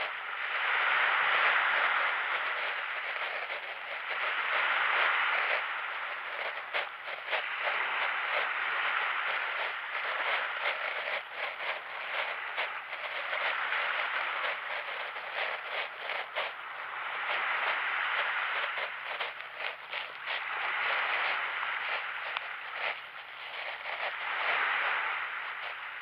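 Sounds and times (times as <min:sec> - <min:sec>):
scattered crackles: 0:00.0 - 0:26.0
waves washing onto sandy beach: 0:00.0 - 0:26.0.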